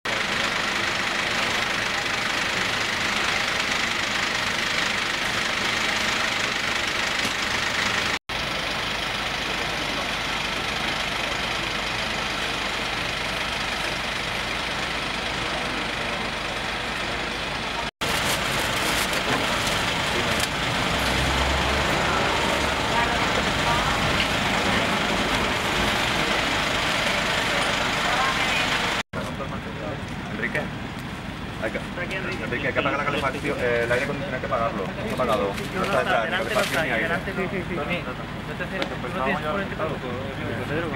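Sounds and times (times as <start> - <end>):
ambulance engine idling: 0.1 - 40.9.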